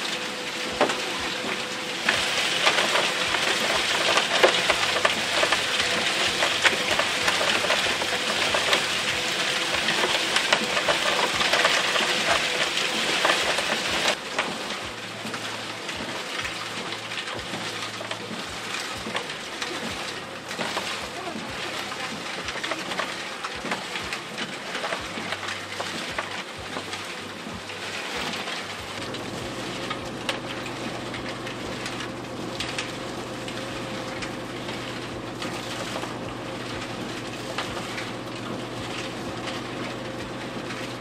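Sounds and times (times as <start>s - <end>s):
hose spraying water on wire cage: 0.0s - 41.0s
pump hum: 0.0s - 41.0s.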